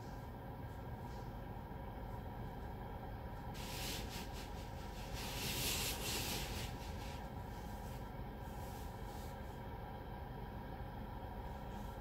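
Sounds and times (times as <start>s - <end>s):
car wash equipment rumbling: 0.0s - 9.8s.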